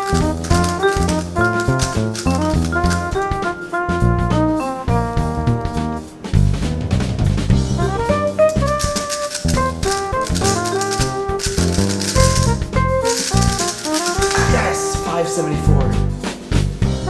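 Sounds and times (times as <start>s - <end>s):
melody of held notes: 0.0s - 6.2s, 7.8s - 16.3s
drum kit beat: 0.0s - 17.0s.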